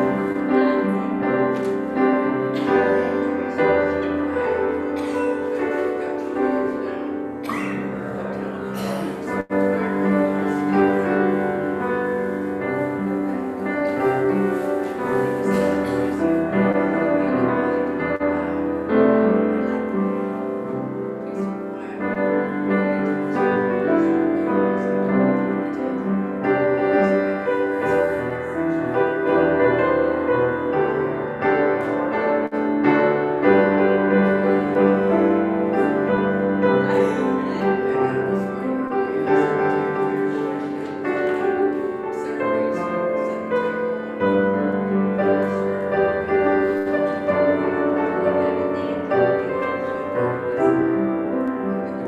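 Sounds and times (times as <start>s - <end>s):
piano chords: 0.0s - 52.0s.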